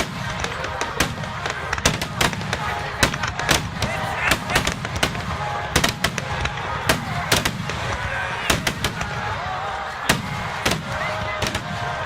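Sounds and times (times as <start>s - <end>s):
crowd voices: 0.0s - 12.0s
fireworks bangs: 0.0s - 12.0s.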